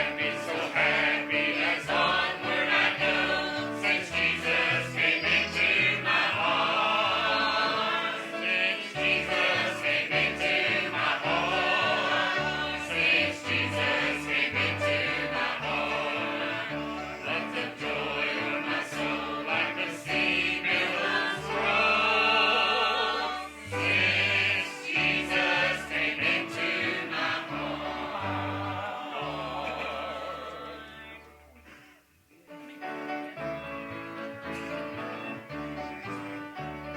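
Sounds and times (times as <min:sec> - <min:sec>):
choir singing with accompaniment: 0:00.0 - 0:31.5.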